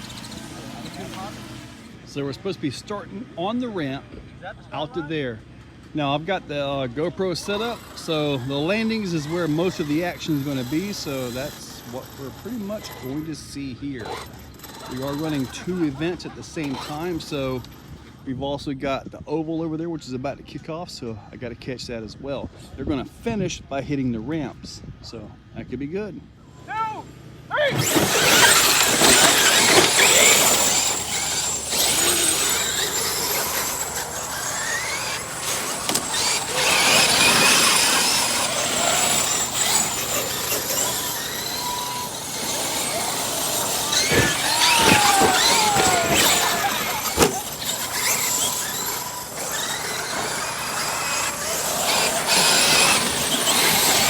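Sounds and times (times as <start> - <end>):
high whine of electric motors: 0.0 - 18.2, 26.5 - 54.0
constant noisy rush: 0.0 - 19.3, 26.5 - 54.0.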